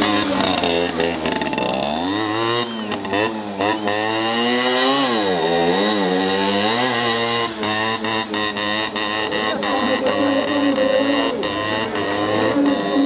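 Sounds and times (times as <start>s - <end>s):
moped engine revving: 0.0s - 13.0s.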